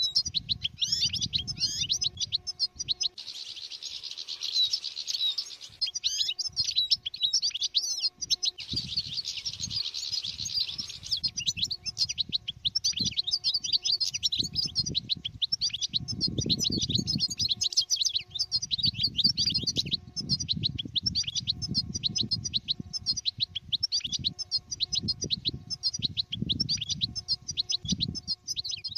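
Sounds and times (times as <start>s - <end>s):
bird twittering song: 0.0s - 28.9s.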